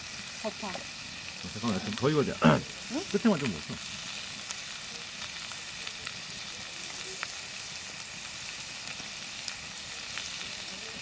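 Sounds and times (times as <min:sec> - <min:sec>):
meat sizzling on hot metal: 0:00.0 - 0:11.0.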